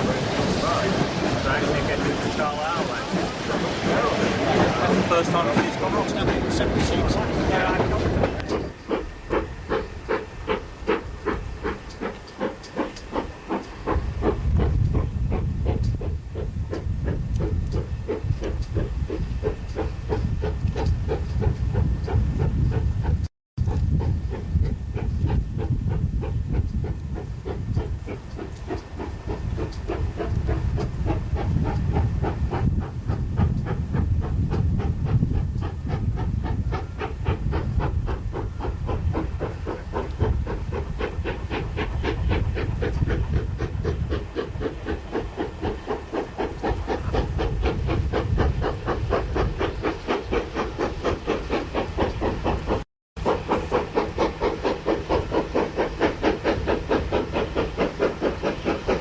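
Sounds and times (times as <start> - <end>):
steam hiss: 0.0 - 23.0, 24.0 - 59.0
steam locomotive exhaust beats: 0.0 - 59.0.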